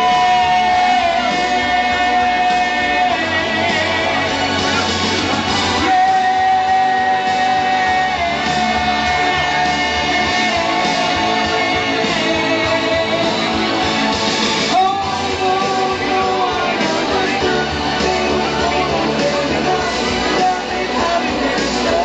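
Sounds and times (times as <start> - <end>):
man singing into a microphone: 0.0 - 13.9, 14.7 - 22.0
pop-rock backing track with guitar: 0.0 - 22.0.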